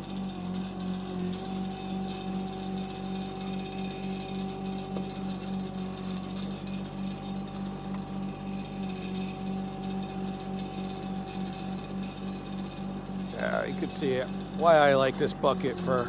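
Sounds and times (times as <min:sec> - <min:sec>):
diesel engine pulsing hum: 0:00.0 - 0:16.0.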